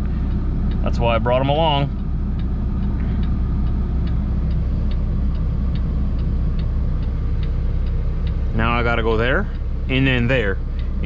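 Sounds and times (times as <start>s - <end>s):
diesel engine running: 0.0s - 11.0s
turn signal ticking: 0.0s - 11.0s.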